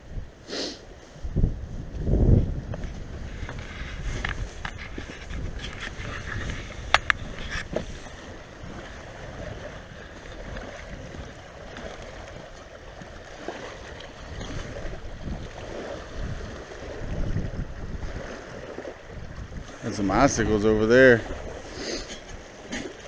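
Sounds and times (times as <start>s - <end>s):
wind rumbling on microphone: 0.0s - 23.0s
waves lapping on rocky shore: 2.0s - 23.0s.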